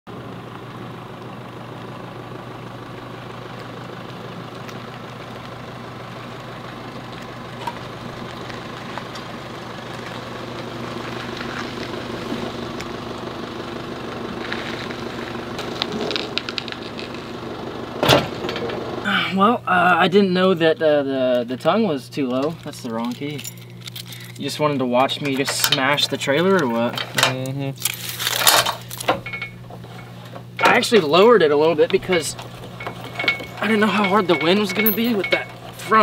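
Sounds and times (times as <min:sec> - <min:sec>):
truck engine running while reversing: 0:00.1 - 0:20.4, 0:23.1 - 0:24.4, 0:27.8 - 0:36.0.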